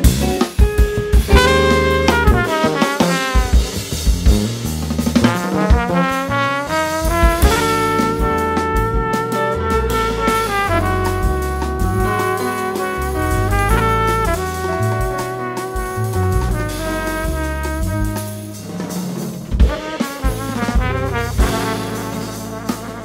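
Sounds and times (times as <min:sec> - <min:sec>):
drum kit: 0:00.0 - 0:23.0
electric bass: 0:00.0 - 0:23.0
trumpet playing: 0:01.3 - 0:04.4, 0:05.2 - 0:23.0.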